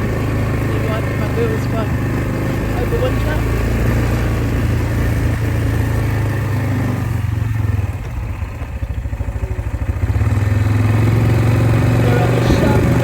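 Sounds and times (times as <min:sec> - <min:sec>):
farm vehicle engine running: 0:00.0 - 0:13.0.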